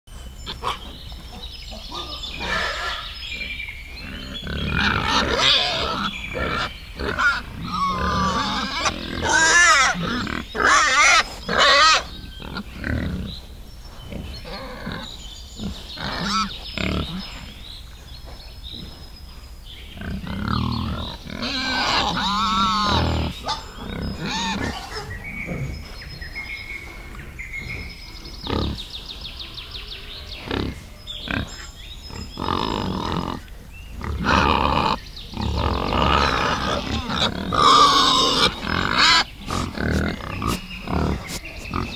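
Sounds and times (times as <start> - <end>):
wild boars grunting and squealing: 0.2 - 17.7, 19.9 - 41.9.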